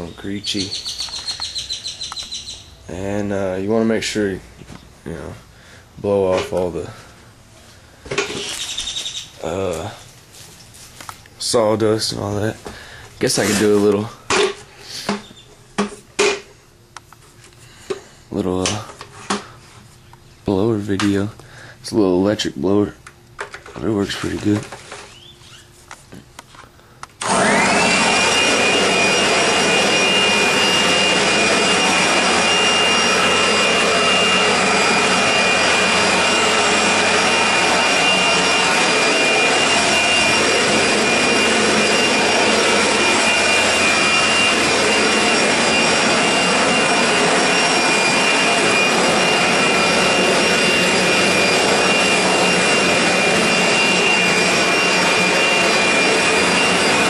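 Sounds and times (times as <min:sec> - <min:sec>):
electric blower running: 0:00.0 - 0:16.6, 0:27.1 - 0:57.0.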